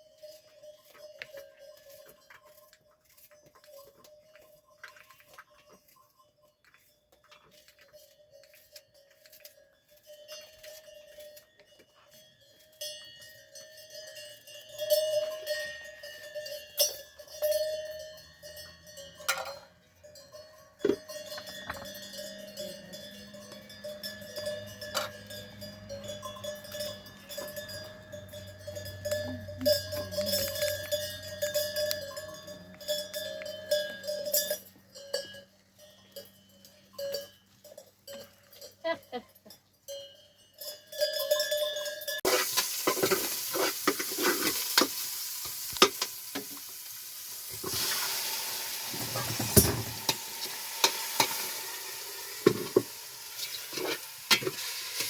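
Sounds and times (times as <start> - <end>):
livestock bells clanking: 0.0 - 55.0.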